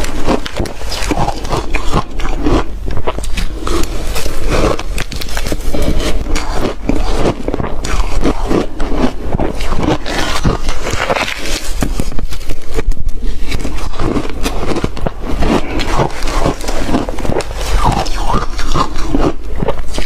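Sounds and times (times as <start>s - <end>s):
ice being crunched and chewed: 0.0s - 20.0s.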